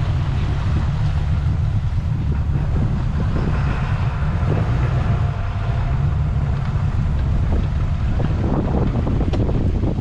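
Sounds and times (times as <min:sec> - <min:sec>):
boat engine rumble: 0:00.0 - 0:10.0
wind buffeting microphone: 0:00.0 - 0:10.0.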